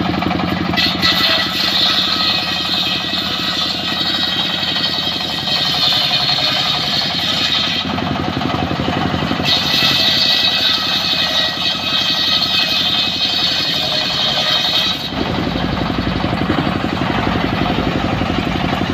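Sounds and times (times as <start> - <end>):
circular saw blade cutting log: 0.0 - 18.9
engine running with rapid pulse: 0.0 - 18.9.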